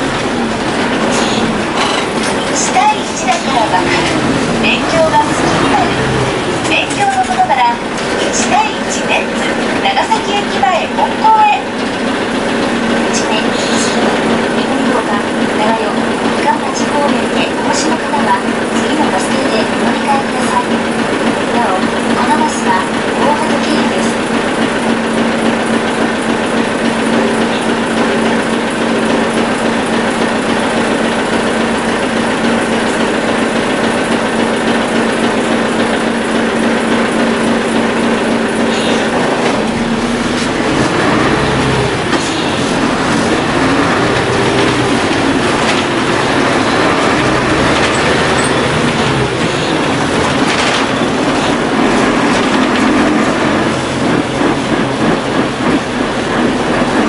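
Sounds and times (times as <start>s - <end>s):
bus diesel engine idling and revving: 0.0s - 57.0s.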